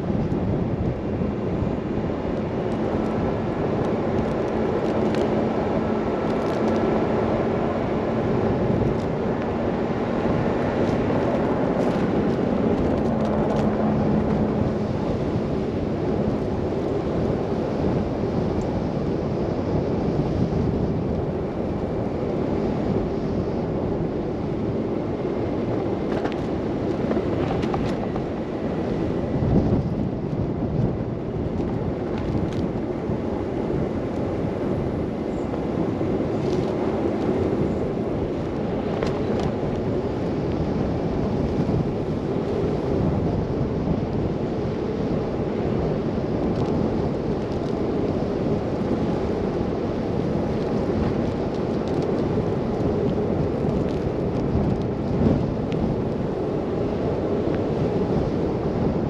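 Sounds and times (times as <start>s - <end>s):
car tyres and engine rumble: 0.0s - 59.0s
wind: 0.0s - 59.0s.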